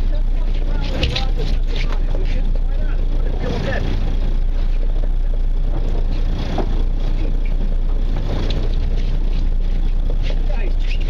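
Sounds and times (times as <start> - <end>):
boat engine rumbling: 0.0 - 11.0
faint voices: 0.0 - 11.0.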